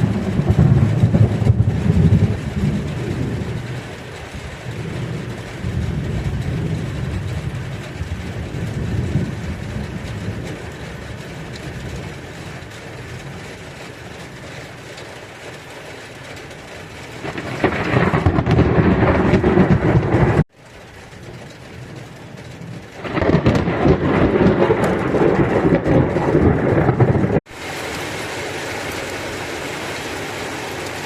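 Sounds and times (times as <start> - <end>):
thunder rumbling: 0.0 - 14.5, 16.6 - 27.6
steady rain: 0.0 - 31.0.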